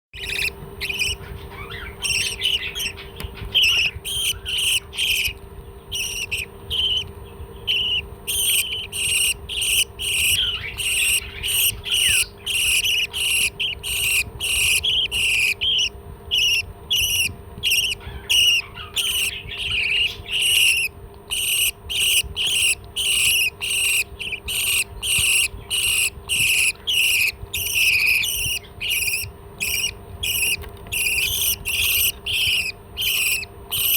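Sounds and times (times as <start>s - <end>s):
parrot shrill calls: 0.2s - 5.4s, 6.0s - 7.1s, 7.7s - 33.9s.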